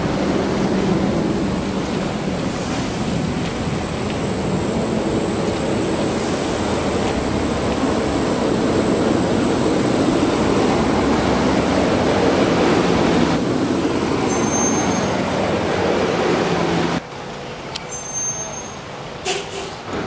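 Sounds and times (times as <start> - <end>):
vehicle engine and road rumble: 0.0 - 17.9.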